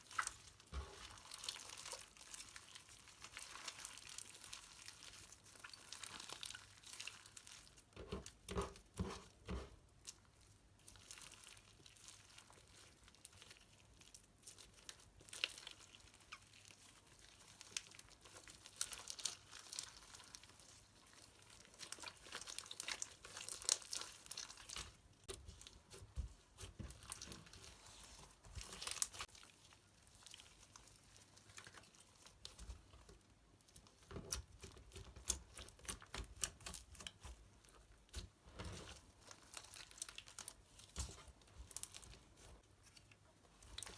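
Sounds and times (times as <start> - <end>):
slime crackling and popping: 0.0 - 8.7, 10.8 - 33.0, 33.8 - 42.4
slime squelches: 0.0 - 43.9.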